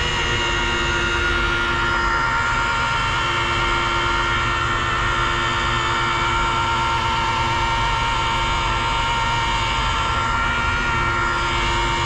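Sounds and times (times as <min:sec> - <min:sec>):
rotary polisher whining: 0:00.0 - 0:12.0.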